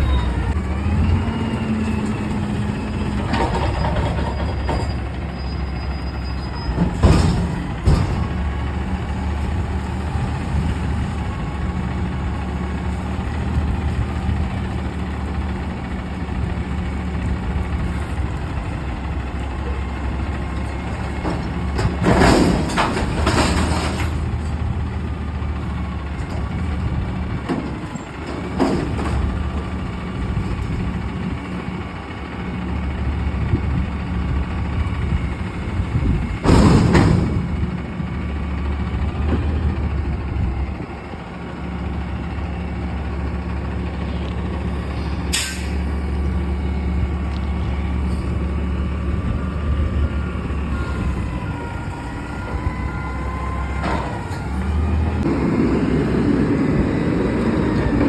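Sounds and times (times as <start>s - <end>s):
garbage truck diesel engine running: 0.0s - 58.0s.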